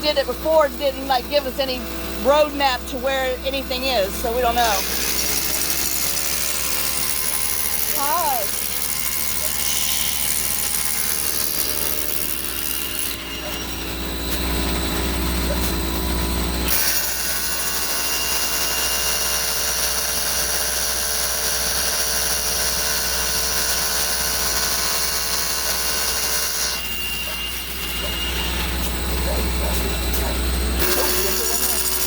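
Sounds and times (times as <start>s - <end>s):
power tool motor running: 0.0s - 32.0s.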